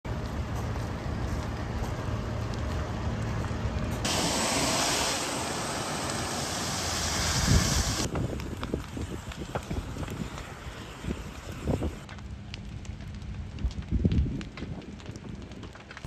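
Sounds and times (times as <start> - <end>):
fire engine hum: 0.1 - 13.5
fire crackling: 0.1 - 16.0
low rumble: 0.1 - 16.0
rushing hiss of flames and wind: 0.1 - 16.0.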